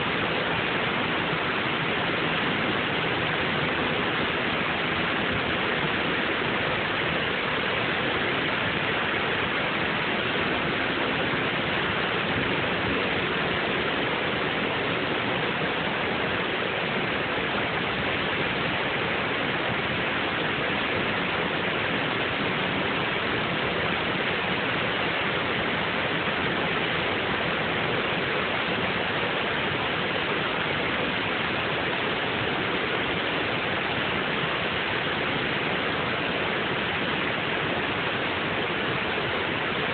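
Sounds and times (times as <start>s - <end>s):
river water rushing over dam: 0.0s - 39.9s.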